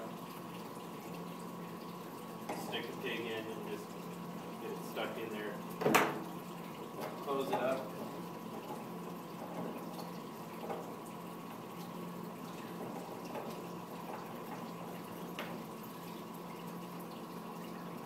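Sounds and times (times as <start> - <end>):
water running through pipes: 0.0 - 18.0.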